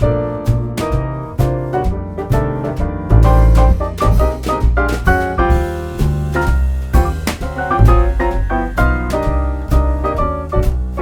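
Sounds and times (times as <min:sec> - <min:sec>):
piano notes over bass line: 0:00.0 - 0:11.0.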